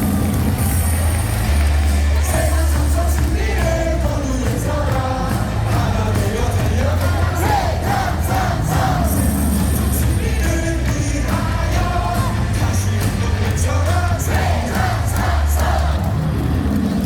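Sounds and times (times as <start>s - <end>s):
crowd singing along: 0.0s - 17.0s
loud stadium music with bass: 0.0s - 17.0s.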